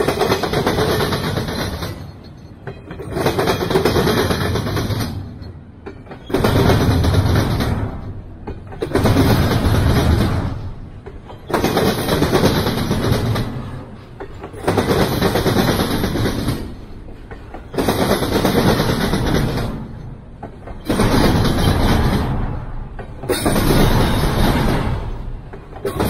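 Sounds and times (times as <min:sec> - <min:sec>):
freight train cars rumbling past: 0:00.0 - 0:26.0.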